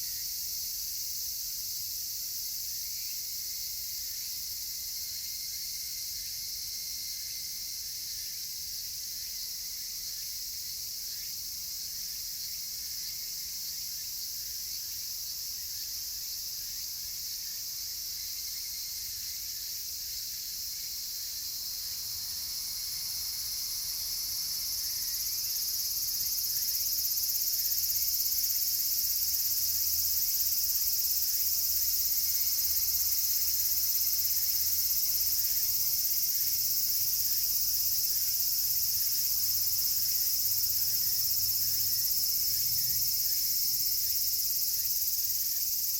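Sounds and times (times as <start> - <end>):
cicadas shrilling: 0.0 - 45.9.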